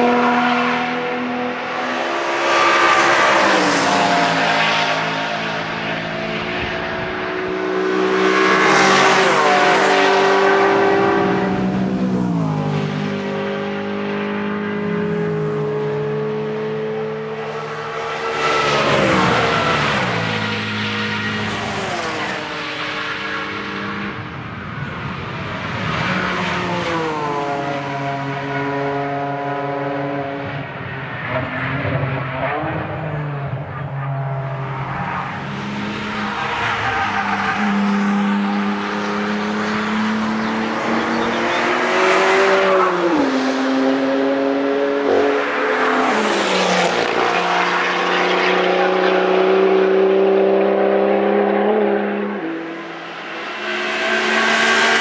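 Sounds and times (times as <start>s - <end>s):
race cars passing: 0.0s - 55.0s.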